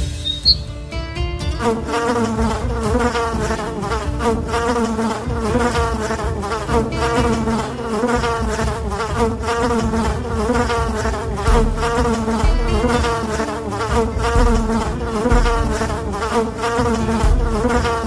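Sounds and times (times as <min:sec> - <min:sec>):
bees buzzing: 0:01.6 - 0:18.0.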